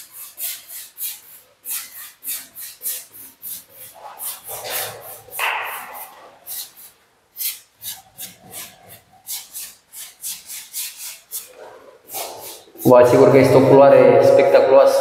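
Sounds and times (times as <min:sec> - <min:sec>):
paintbrush scraping on wall: 0:00.0 - 0:14.3.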